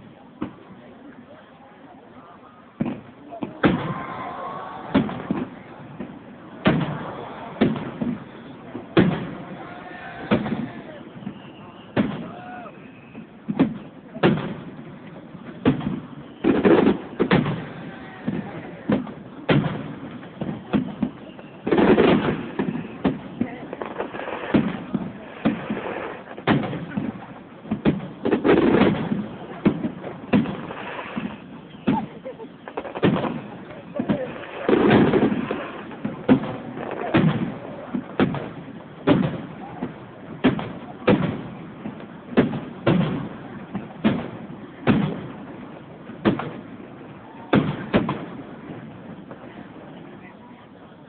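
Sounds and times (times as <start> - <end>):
fireworks bursting with sharp bangs: 0.0 - 51.0.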